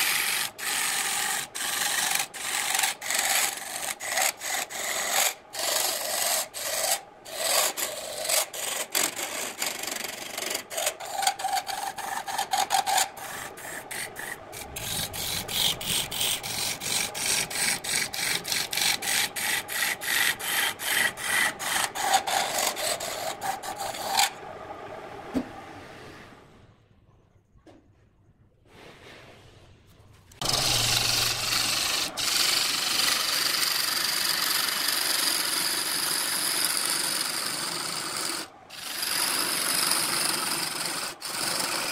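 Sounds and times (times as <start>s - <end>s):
lathe tool scraping wood: 0.0s - 24.4s, 30.4s - 41.9s
faint lathe running: 0.0s - 25.8s, 30.4s - 41.9s.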